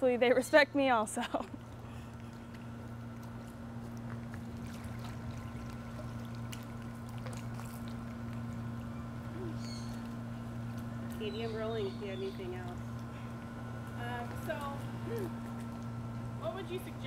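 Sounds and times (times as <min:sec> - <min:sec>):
steady low hum: 0:00.0 - 0:17.0
water trickling: 0:01.3 - 0:17.0.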